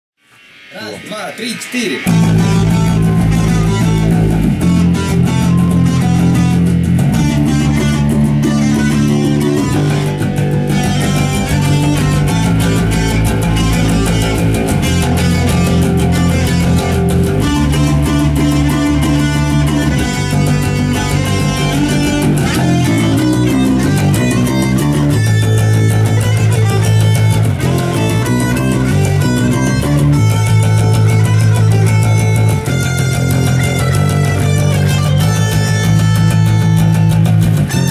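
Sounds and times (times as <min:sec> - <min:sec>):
electric guitar and bass rock riff: 0:00.2 - 0:37.9
punk band music: 0:00.4 - 0:37.9.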